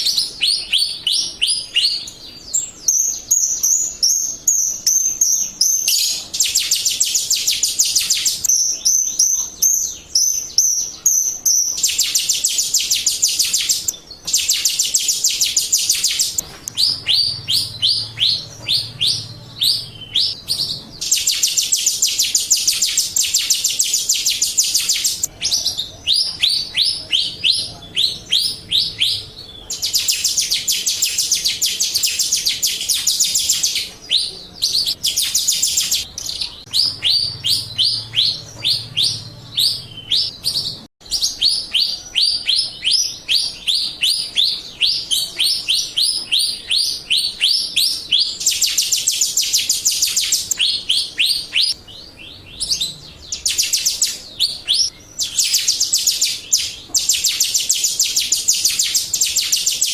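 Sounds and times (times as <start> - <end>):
harsh buzzing bird chatter: 0.0 - 59.9
starling falling chirps: 0.0 - 59.9.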